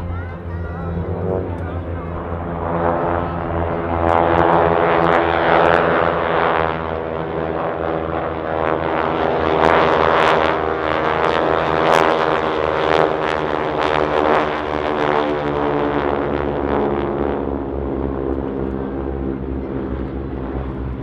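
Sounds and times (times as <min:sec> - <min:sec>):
propeller planes droning: 0:00.0 - 0:21.0.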